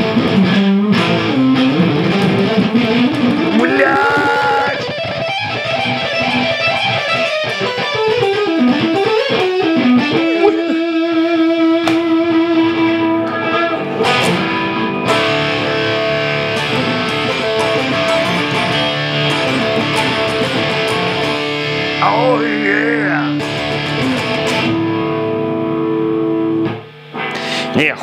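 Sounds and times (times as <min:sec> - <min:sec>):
overdriven electric guitar: 0:00.0 - 0:28.0.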